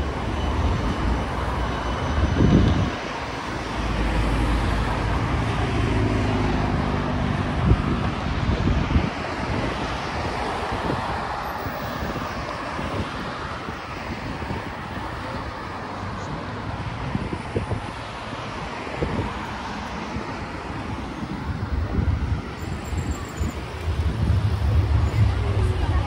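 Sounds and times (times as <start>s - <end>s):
cars passing: 0.0s - 26.0s
vehicle rumble: 0.0s - 26.0s.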